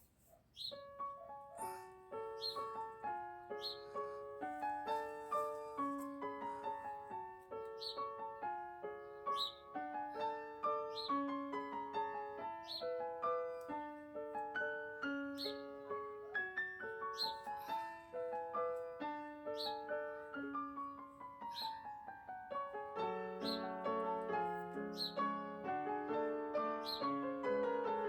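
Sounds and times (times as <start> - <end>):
soft piano music: 0.0 - 28.0.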